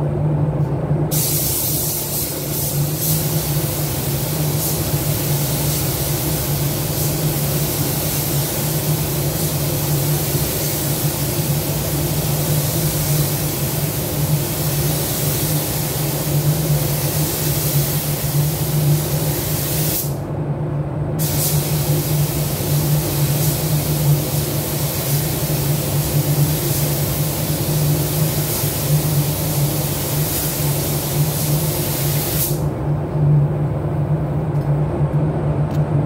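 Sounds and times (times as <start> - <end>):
steady low hum: 0.0 - 36.0
spray gun hissing: 1.1 - 20.2, 21.2 - 32.6.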